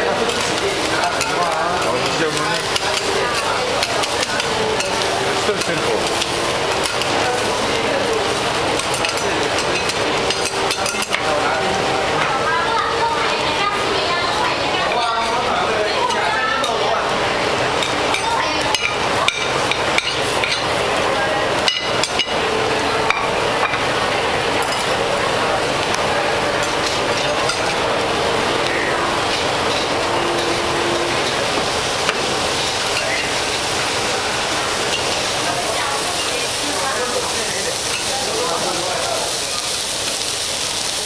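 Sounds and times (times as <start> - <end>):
food sizzling: 0.0 - 41.0.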